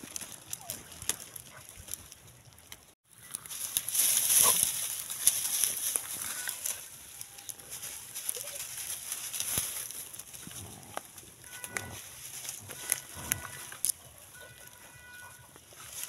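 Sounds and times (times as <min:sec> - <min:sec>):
dogs rustling in dry grass: 0:00.0 - 0:16.0.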